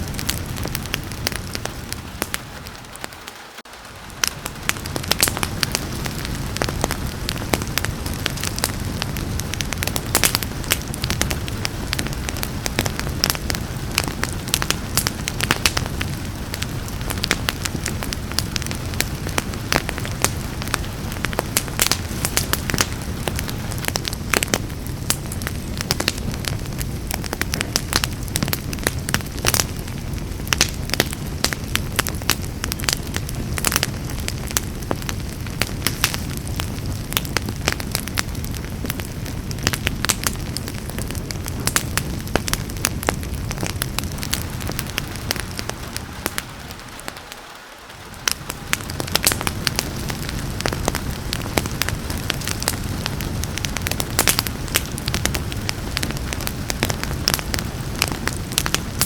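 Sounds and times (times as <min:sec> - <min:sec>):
rain falling: 0:00.0 - 0:59.0
wood fire crackling: 0:00.0 - 0:59.0.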